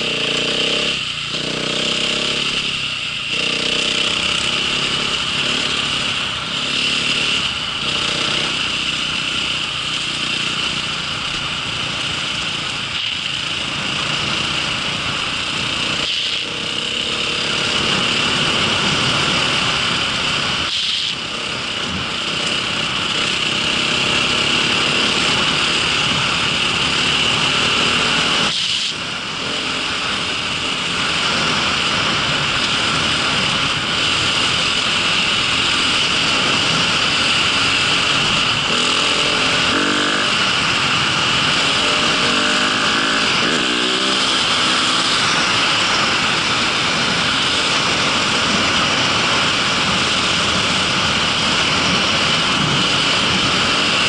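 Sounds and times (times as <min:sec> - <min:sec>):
small vehicle engine running: 0:00.0 - 0:54.0.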